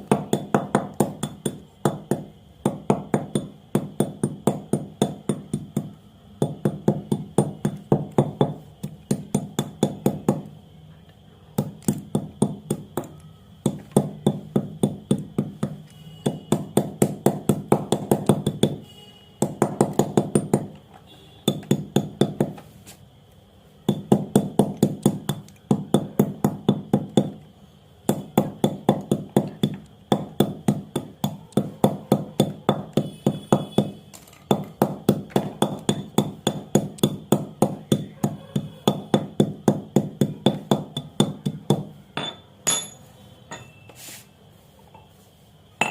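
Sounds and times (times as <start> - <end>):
pounding strikes crushing pencils: 0.0 - 10.6, 11.6 - 23.0, 23.8 - 27.4, 28.0 - 43.7.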